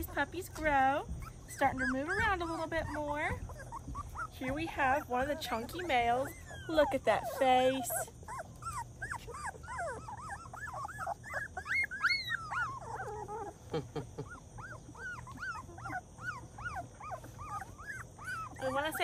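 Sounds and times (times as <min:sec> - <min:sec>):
puppies whimpering: 0:00.0 - 0:19.0.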